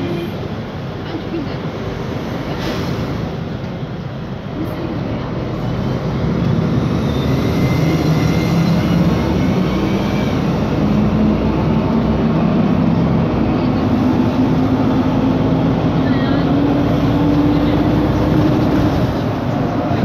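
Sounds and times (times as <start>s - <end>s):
bus engine from inside cabin: 0.0s - 20.0s.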